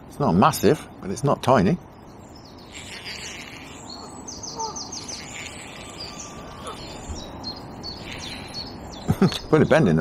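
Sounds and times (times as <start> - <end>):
songbirds twittering: 0.0 - 10.0.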